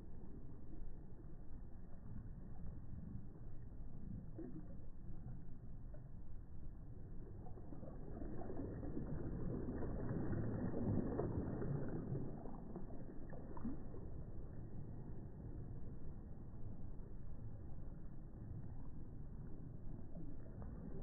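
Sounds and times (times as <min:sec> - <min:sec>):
small waves breaking softly: 0:00.0 - 0:21.0.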